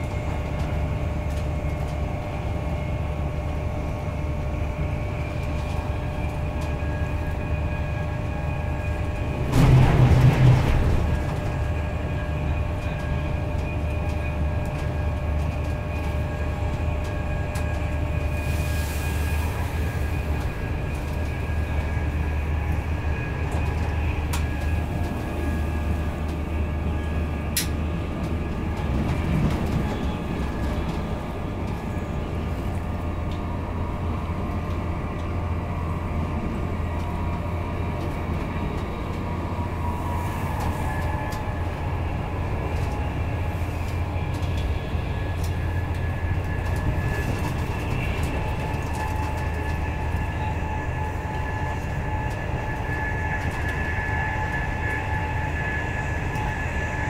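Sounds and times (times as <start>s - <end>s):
train coach low rumble: 0.0s - 57.0s.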